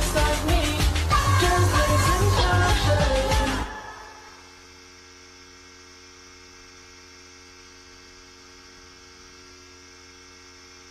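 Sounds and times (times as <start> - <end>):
electrical mains hum: 0.0 - 10.9.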